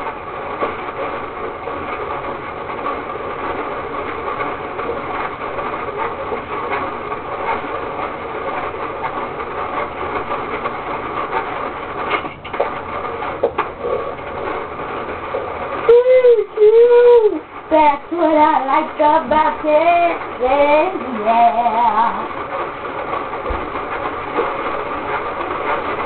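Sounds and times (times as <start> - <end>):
ice crushing in hand-cranked churn: 0.0 - 22.3.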